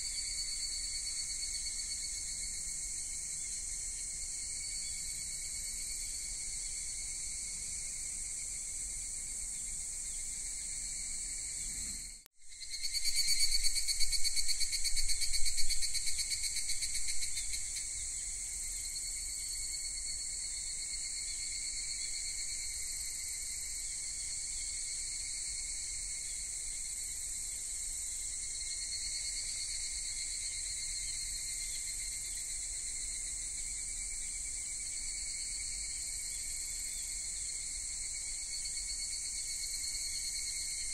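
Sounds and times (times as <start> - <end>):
crickets trilling chorus: 0.0 - 40.9
rapidly pulsing insect trill: 0.0 - 40.9.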